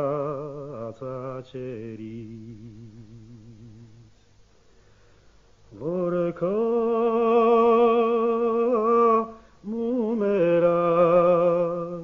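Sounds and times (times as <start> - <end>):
man singing unaccompanied: 0.0 - 4.2, 5.7 - 12.0.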